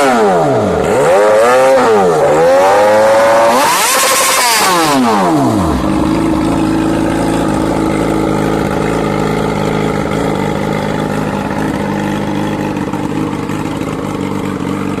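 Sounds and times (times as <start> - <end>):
motorcycle engine growl: 0.0 - 15.0.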